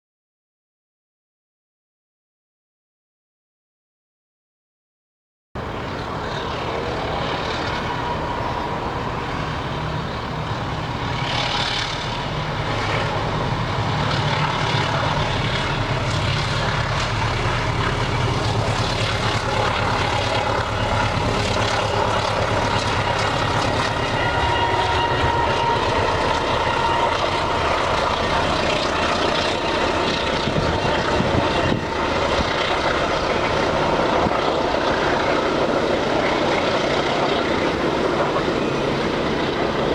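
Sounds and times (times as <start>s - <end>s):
diesel locomotive engine drone: 5.6s - 39.9s.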